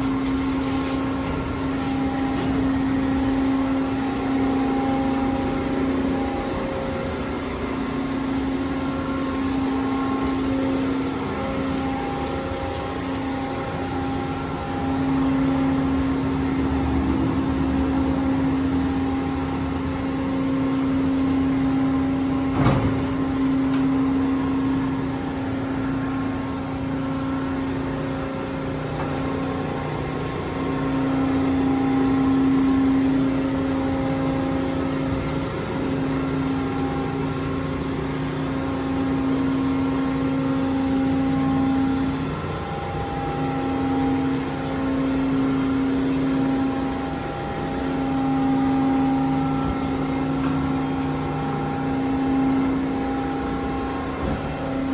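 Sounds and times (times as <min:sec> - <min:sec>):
car wash machinery hum: 0:00.0 - 0:54.9.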